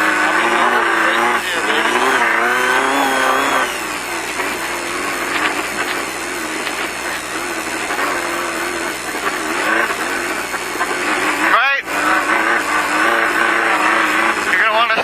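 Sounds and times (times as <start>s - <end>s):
car driving over rocky ground: 0.0s - 15.0s
race car engine running: 0.0s - 15.0s.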